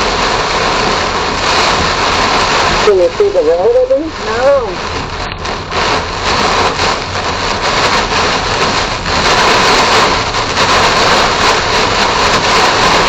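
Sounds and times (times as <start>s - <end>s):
heavy rain hitting a car: 0.0s - 13.0s.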